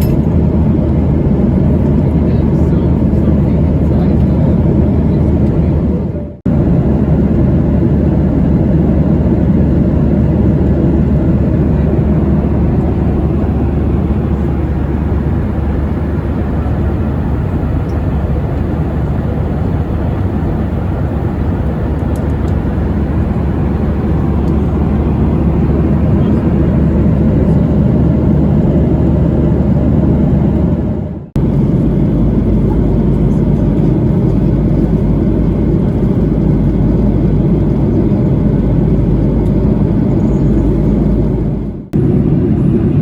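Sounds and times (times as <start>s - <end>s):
airplane cabin drone: 0.0s - 43.0s.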